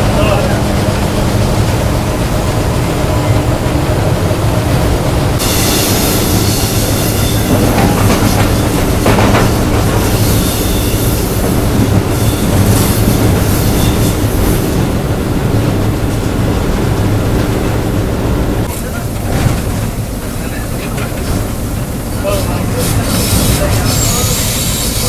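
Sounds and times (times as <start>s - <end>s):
diesel locomotive engine drone: 0.0s - 25.0s
wheels rushing on rails: 0.0s - 25.0s
wind: 0.0s - 25.0s.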